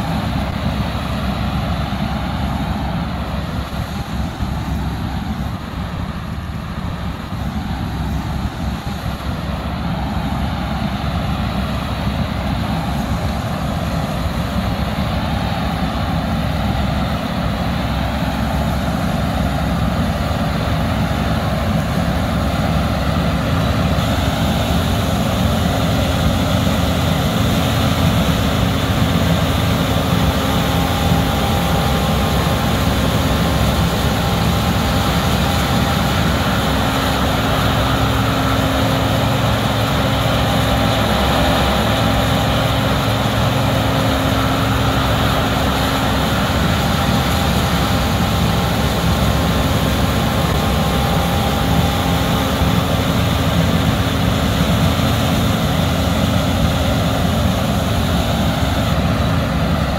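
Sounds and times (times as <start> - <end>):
mechanical engine hum: 0.0 - 59.9.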